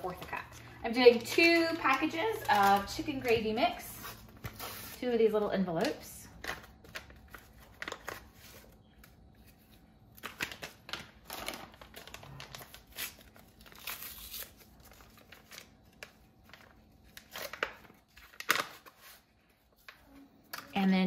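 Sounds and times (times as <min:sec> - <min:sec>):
paper packets tearing and crinkling: 0:00.0 - 0:05.2, 0:05.8 - 0:19.3.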